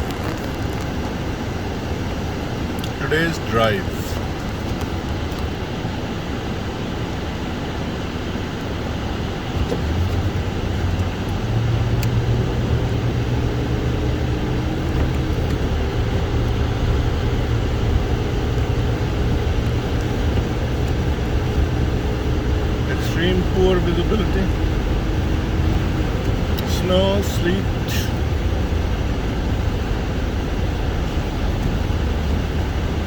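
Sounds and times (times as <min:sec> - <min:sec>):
tyre and engine rumble inside car: 0:00.0 - 0:33.0.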